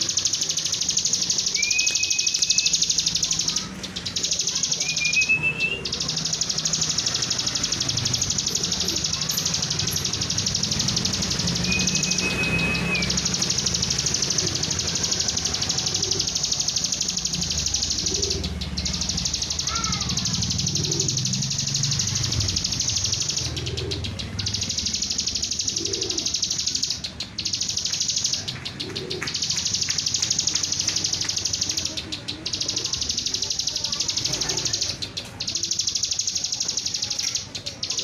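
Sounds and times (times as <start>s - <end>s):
bird buzzing trill: 0.0s - 31.9s.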